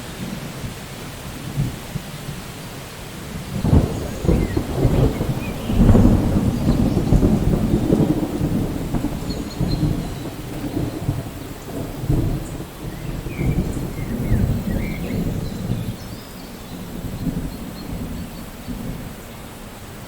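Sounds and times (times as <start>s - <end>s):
steady rain: 0.0s - 20.0s
thunder rumbling: 3.4s - 20.0s.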